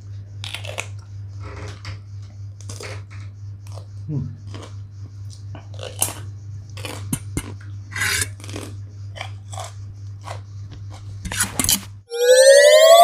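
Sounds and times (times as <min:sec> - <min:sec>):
steady low hum: 0:00.0 - 0:13.0
man chewing crunchy food: 0:00.3 - 0:12.0.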